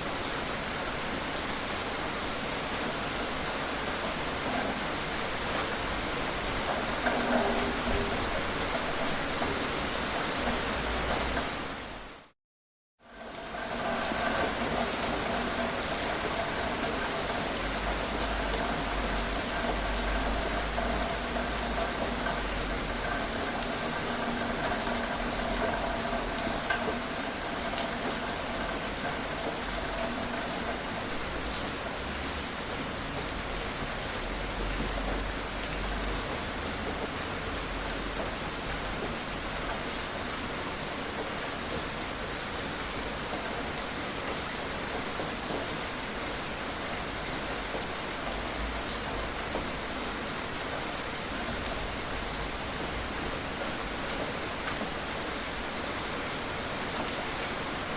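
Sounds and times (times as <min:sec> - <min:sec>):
gentle rain falling: 0:00.0 - 0:12.4, 0:13.0 - 0:57.9
raindrops ticking: 0:04.4 - 0:11.6, 0:13.1 - 0:56.2.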